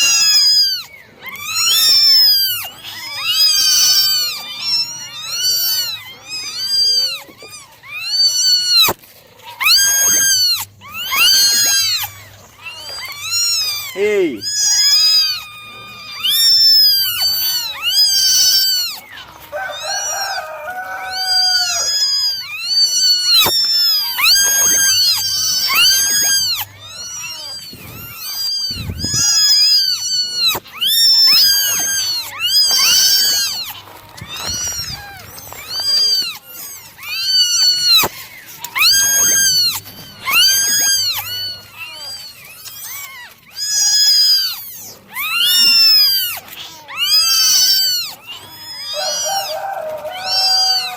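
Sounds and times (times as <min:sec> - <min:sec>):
kittens meowing: 0:00.0 - 0:50.9.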